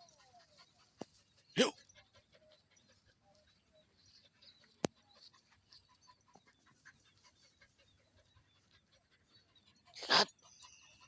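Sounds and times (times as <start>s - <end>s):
faint dog panting: 0.0s - 11.0s.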